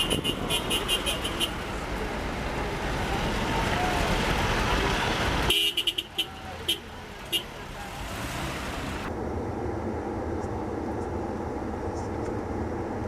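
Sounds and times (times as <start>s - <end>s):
passing vehicles rumble: 0.0s - 13.0s.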